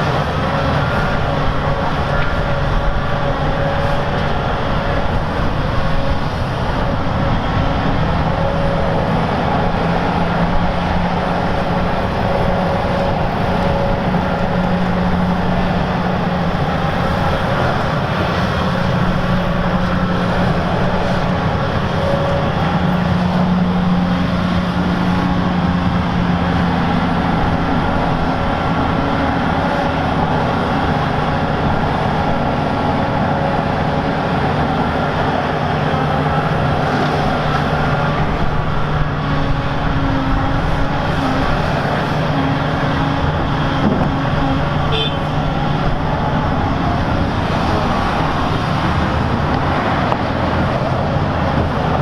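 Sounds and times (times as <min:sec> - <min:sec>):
heavy diesel machinery running: 0:00.0 - 0:52.0.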